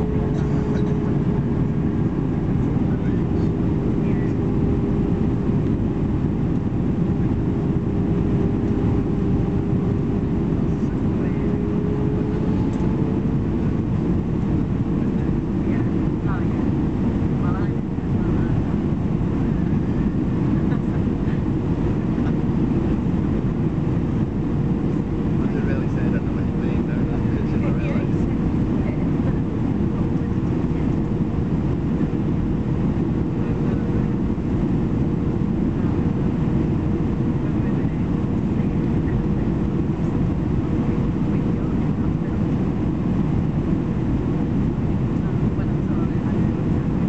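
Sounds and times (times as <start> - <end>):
aircraft cabin rumble: 0.0 - 47.0
faint steady hum: 0.0 - 47.0.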